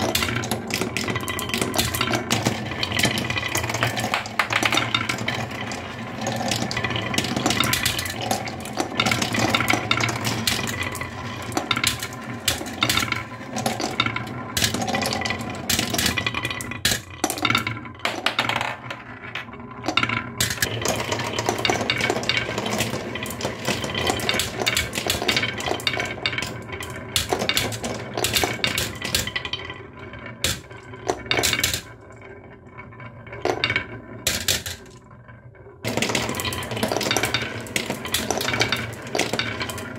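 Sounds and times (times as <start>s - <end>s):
marbles rolling in wooden marble run: 0.0s - 39.9s.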